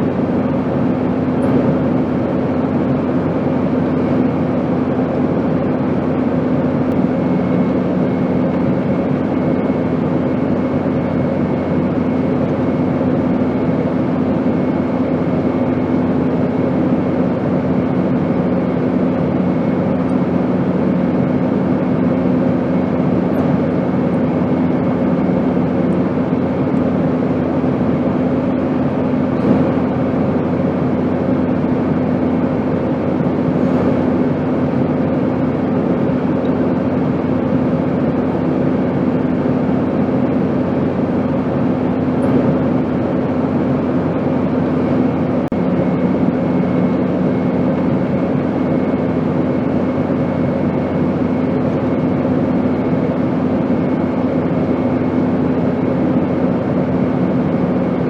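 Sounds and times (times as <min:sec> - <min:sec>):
airplane drone: 0:00.0 - 0:58.0.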